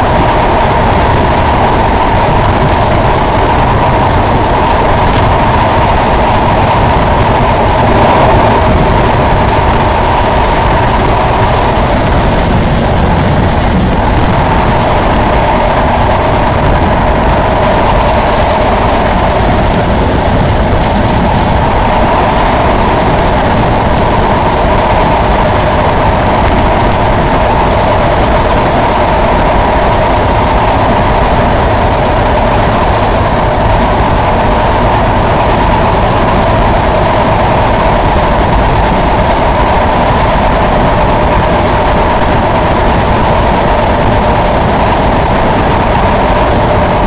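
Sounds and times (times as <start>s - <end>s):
train wheels on rails: 0.0s - 47.0s.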